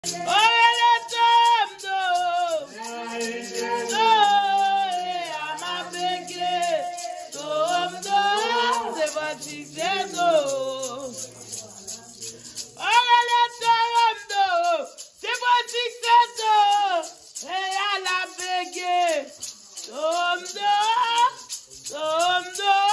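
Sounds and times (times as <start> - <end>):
woman singing slow song: 0.0 - 11.2, 12.8 - 19.2, 19.9 - 22.9.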